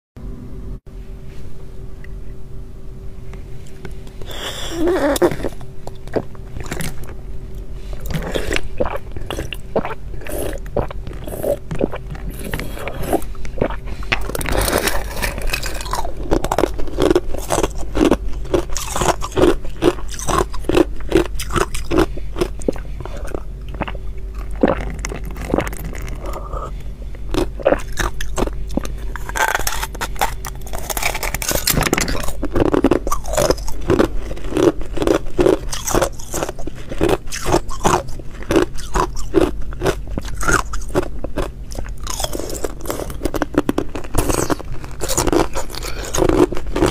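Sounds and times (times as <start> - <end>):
low hum: 0.2 - 46.9
ice crunching while chewed: 3.7 - 46.9.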